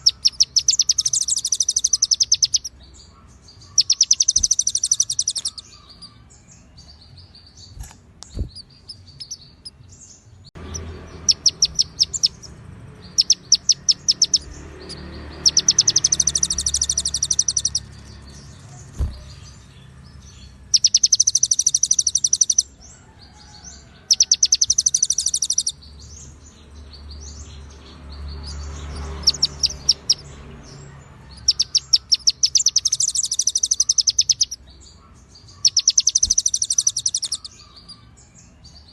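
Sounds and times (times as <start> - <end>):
songbird trilling: 0.0 - 22.9, 23.6 - 38.9.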